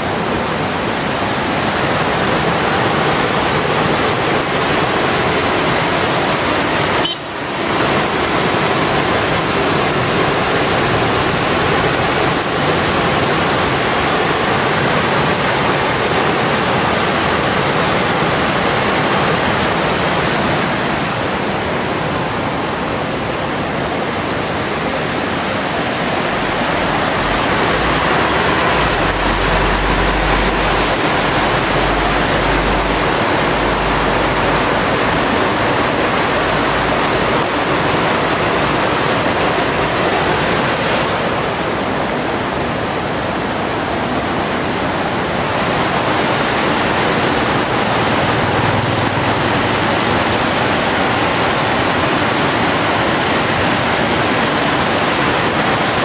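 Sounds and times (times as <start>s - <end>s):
river rushing over boulders: 0.0s - 56.0s.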